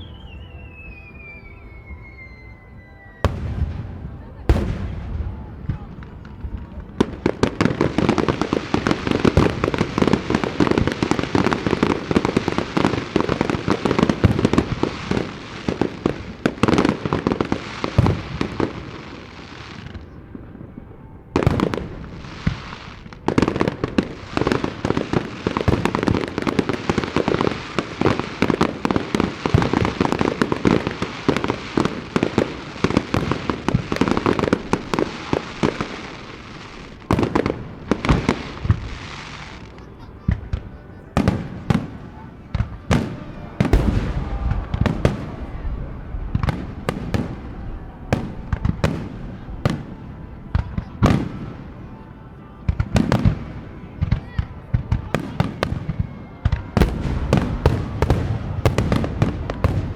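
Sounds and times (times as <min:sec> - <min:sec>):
aerial fireworks bursting: 0:03.1 - 0:20.2, 0:21.4 - 0:51.6, 0:52.7 - 0:59.9.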